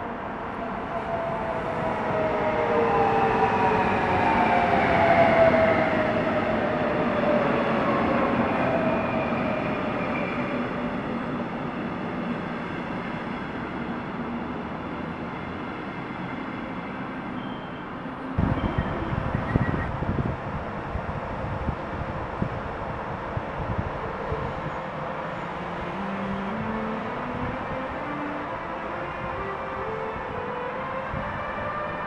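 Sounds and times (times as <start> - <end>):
electric locomotive whine: 0.0 - 32.0.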